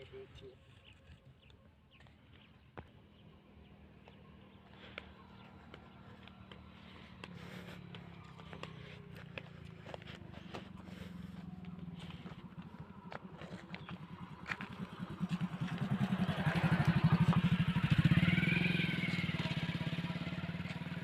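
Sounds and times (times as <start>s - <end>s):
passing vehicle engine: 2.9s - 21.0s.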